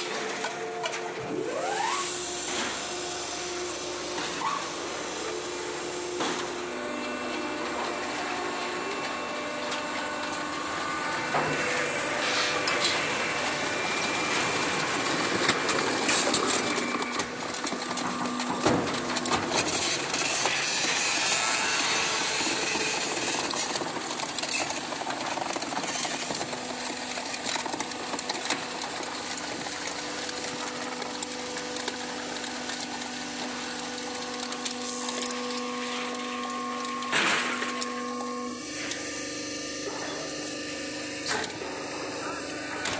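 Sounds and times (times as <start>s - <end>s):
baling machine hum and clatter: 0.0s - 42.9s.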